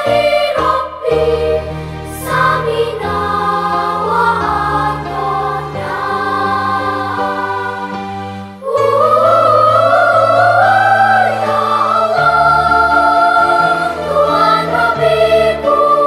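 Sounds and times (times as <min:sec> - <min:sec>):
children's choir singing: 0:00.0 - 0:16.0.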